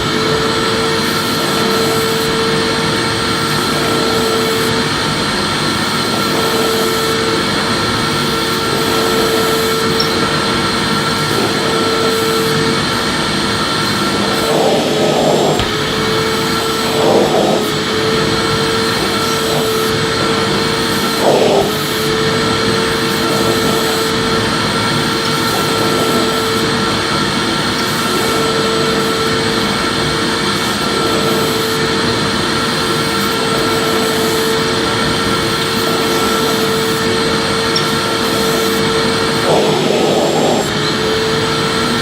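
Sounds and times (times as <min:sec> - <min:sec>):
vacuum cleaner running: 0:00.0 - 0:42.0.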